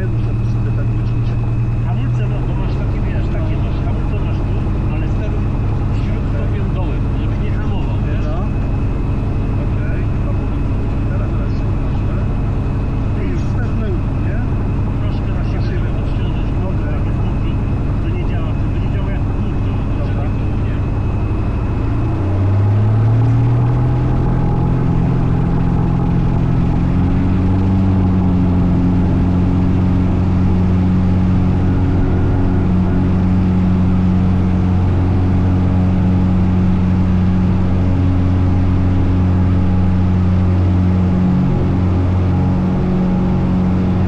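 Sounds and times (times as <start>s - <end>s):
light aircraft engine and propeller: 0.0s - 44.0s.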